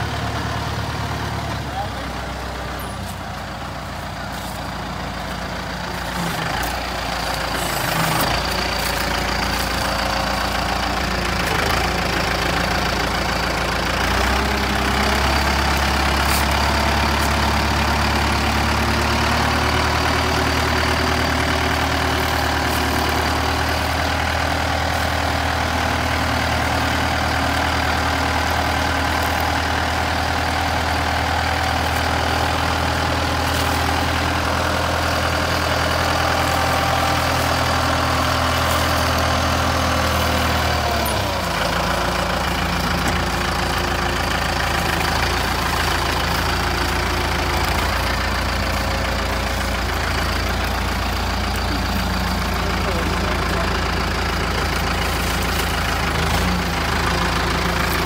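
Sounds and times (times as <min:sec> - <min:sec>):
tractor diesel engine revving: 0:00.0 - 0:58.0.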